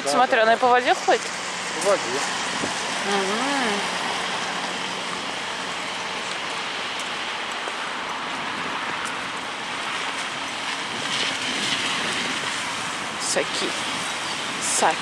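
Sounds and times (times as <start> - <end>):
tyres on wet road: 0.0 - 15.0.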